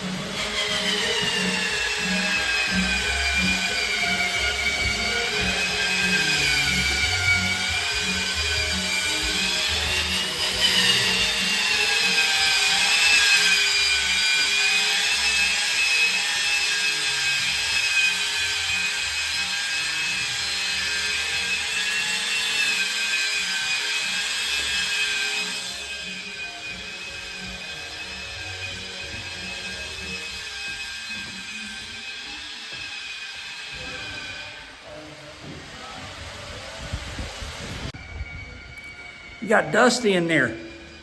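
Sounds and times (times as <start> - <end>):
power sander motor whine: 0.0 - 34.4
rasp of sanding: 0.0 - 34.4.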